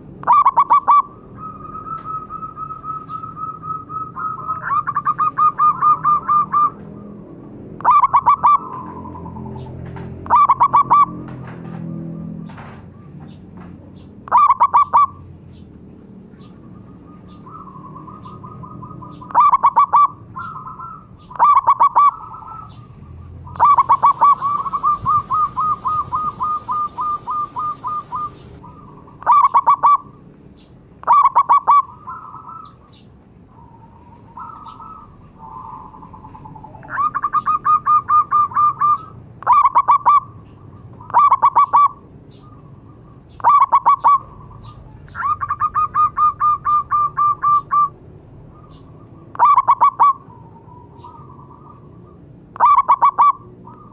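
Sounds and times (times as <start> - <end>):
doves cooing: 0.0 - 13.4, 14.0 - 15.3, 16.4 - 30.3, 31.0 - 53.9.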